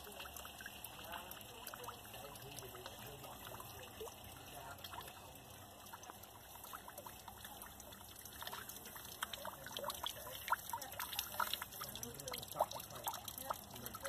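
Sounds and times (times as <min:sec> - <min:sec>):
water drips splashing: 0:00.0 - 0:14.0
water trickling: 0:00.0 - 0:14.0.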